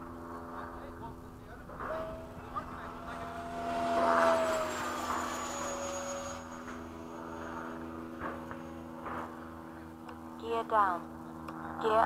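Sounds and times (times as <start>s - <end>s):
model jet fan whine flying past: 0.0s - 12.0s.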